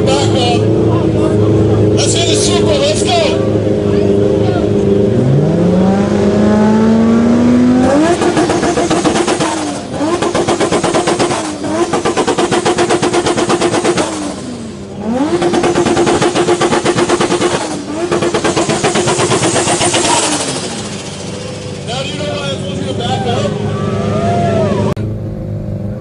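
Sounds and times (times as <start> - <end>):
engine revving against limiter: 0.0 - 26.0.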